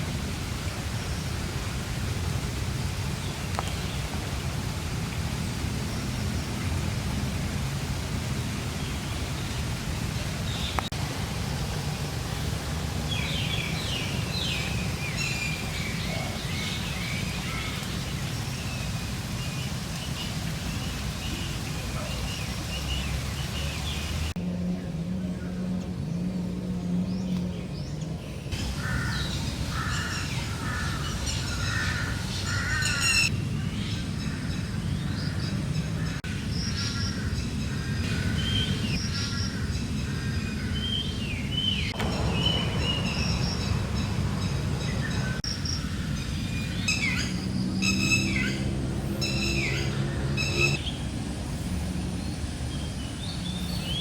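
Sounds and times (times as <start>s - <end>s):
birds chirping: 5.3s - 54.0s.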